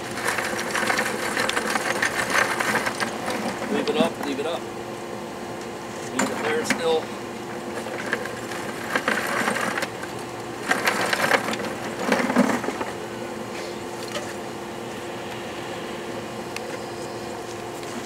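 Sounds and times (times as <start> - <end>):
air blower hum: 0.0 - 18.0.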